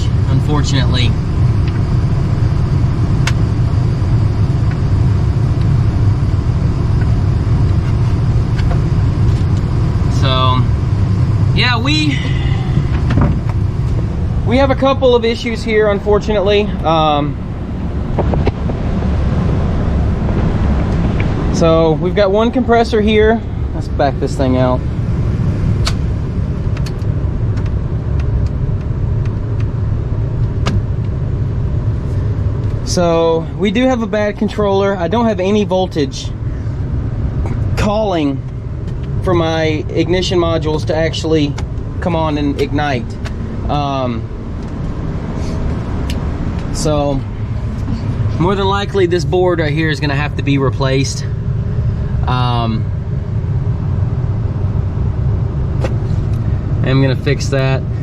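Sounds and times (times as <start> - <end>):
blower running low rumble: 0.0 - 58.0.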